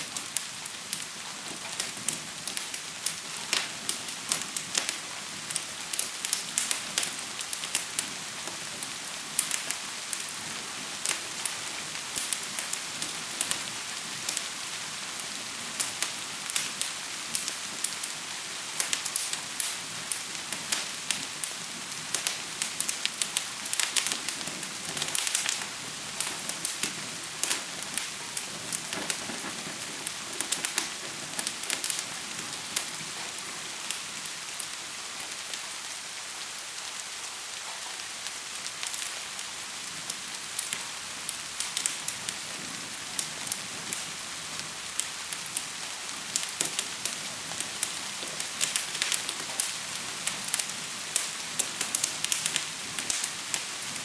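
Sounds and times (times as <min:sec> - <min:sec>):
fire crackling and popping: 0:00.0 - 0:54.0
rain hiss: 0:00.0 - 0:54.0.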